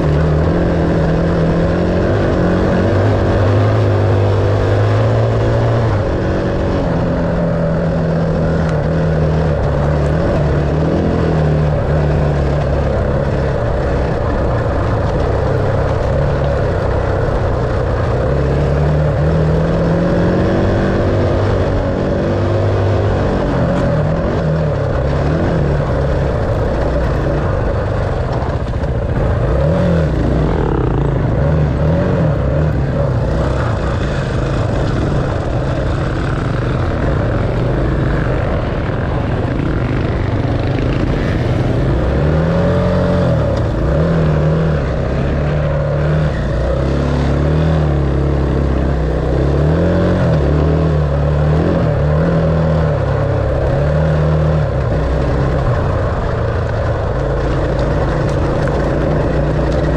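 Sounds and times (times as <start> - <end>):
dirt bike engine revving: 0.0 - 59.9
wind noise: 0.0 - 59.9.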